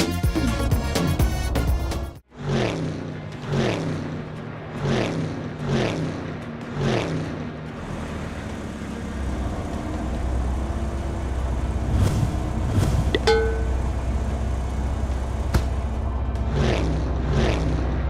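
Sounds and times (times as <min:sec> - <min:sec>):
vehicle engine rumble: 0:03.0 - 0:18.0.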